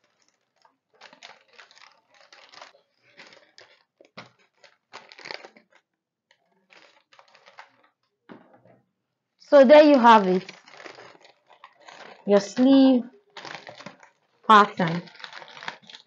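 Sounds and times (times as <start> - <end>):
paper rustling and crinkling: 0.0 - 8.6, 9.6 - 16.0.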